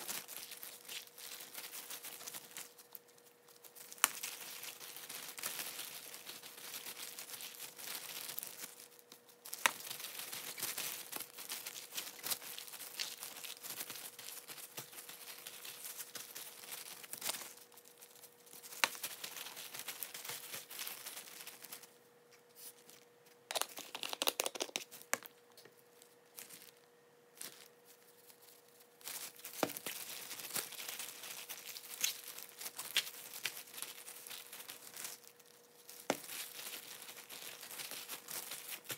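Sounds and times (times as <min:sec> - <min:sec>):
plastic gloves crinkling: 0:00.0 - 0:38.9.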